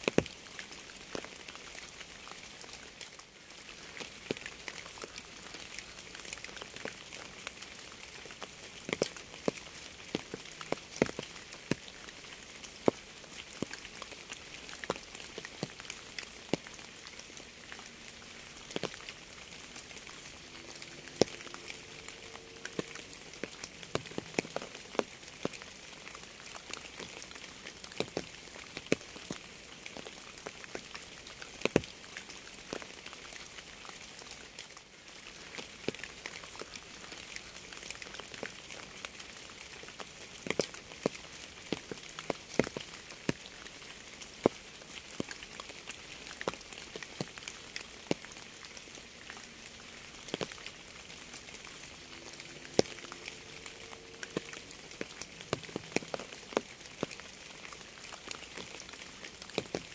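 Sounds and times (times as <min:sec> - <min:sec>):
raindrops tapping close by: 0:00.0 - 0:59.9
steady rain hiss: 0:00.0 - 0:59.9.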